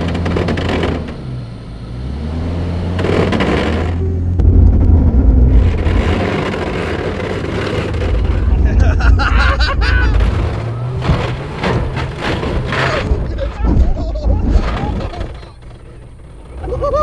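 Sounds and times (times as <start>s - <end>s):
vehicle engine rumbling under load: 0.0s - 17.0s
rough broad noise: 2.9s - 16.6s.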